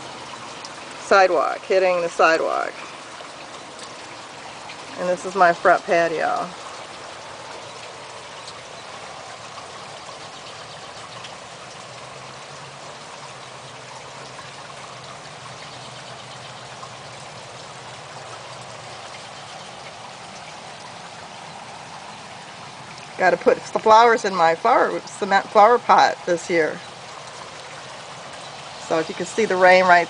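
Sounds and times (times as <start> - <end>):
light rain on pavement: 0.0 - 30.0.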